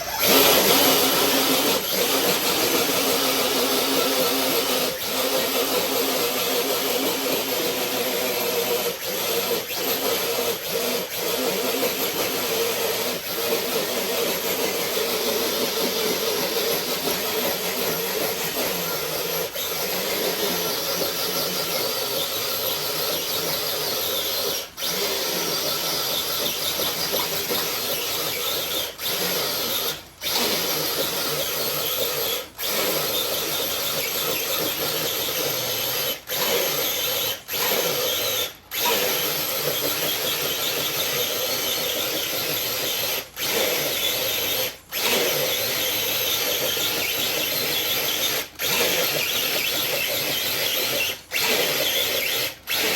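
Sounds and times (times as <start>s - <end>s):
electric motor whining: 0.0s - 52.9s.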